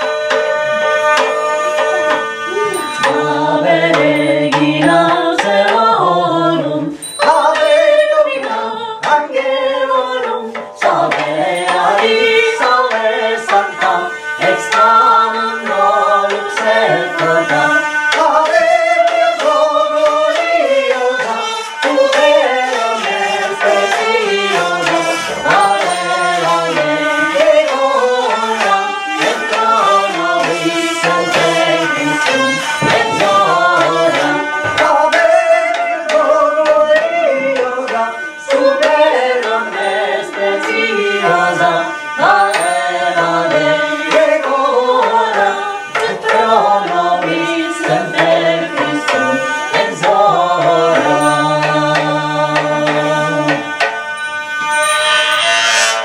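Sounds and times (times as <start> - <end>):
hurdy-gurdy drone: 0.0 - 56.0
voices singing polyphony: 0.0 - 56.0.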